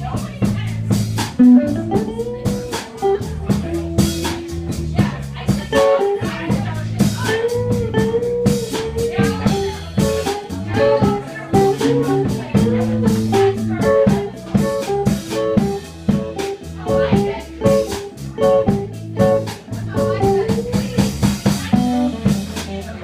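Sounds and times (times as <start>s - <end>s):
drum beat: 0.0s - 23.0s
electric guitar bending notes: 1.3s - 5.0s, 7.3s - 21.0s, 21.7s - 23.0s.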